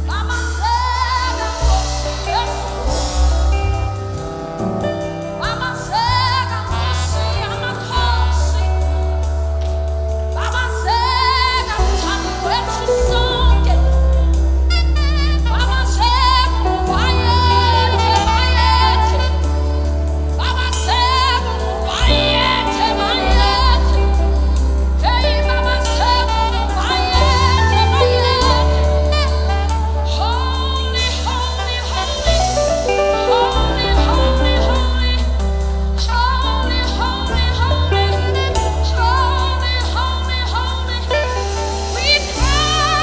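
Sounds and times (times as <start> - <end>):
band with steady bass line: 0.0 - 43.0
person singing with vibrato: 0.0 - 43.0.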